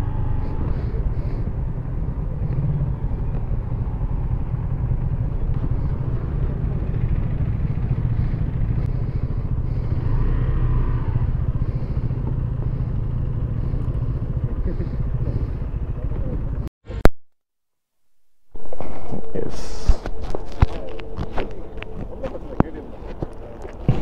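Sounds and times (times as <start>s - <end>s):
motorcycle engine running: 0.0s - 16.7s, 19.4s - 24.0s
road and wind noise: 0.0s - 16.7s, 18.5s - 24.0s.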